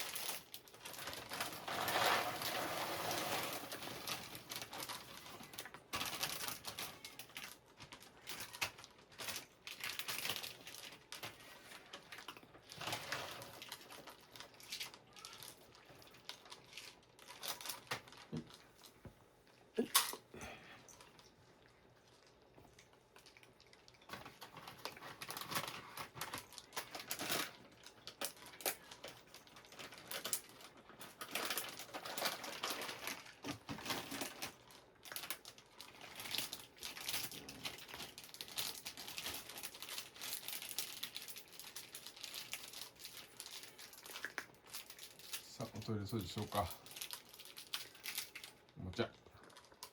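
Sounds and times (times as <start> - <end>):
dry cat food crunching: 0.0 - 20.0, 20.8 - 49.9
crinkling rustles: 0.0 - 49.9.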